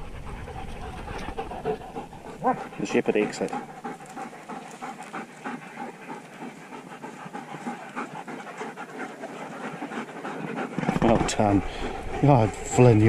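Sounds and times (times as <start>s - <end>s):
dogs panting: 0.0s - 13.0s.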